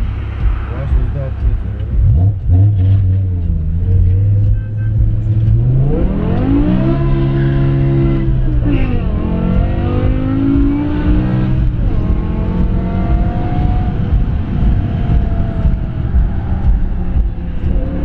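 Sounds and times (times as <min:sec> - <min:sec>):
car engine accelerating: 0:00.0 - 0:18.0
road rumble: 0:00.0 - 0:18.0.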